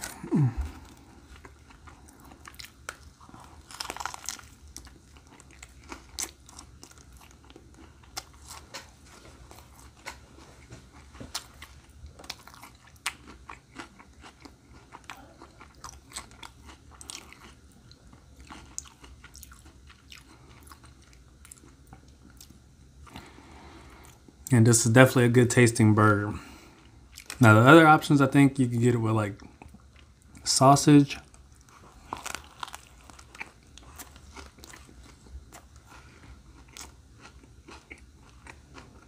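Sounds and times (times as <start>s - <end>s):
chewing with crunches: 0.0s - 24.5s, 26.4s - 27.5s, 31.1s - 39.0s.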